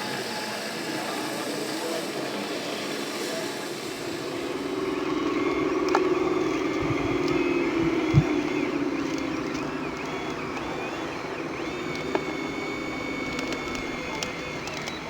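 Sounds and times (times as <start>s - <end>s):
small motor whining: 0.0s - 15.0s.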